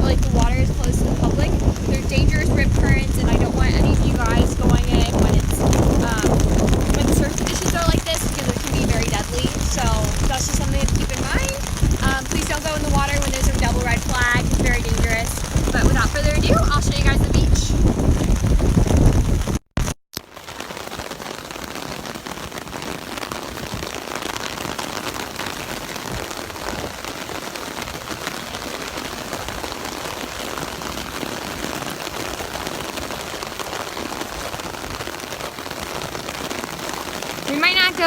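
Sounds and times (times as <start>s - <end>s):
heavy rain on an umbrella: 0.0s - 38.0s.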